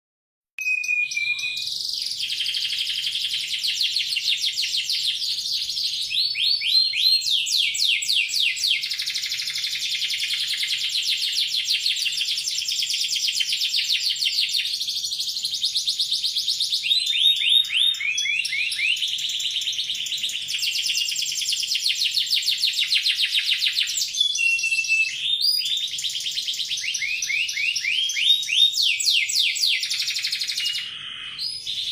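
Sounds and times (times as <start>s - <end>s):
canary singing trills: 0.6s - 31.9s.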